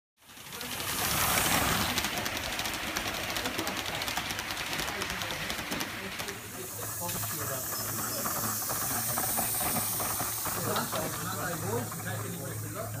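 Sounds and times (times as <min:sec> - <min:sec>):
model train wheels on rails: 0:00.2 - 0:13.0.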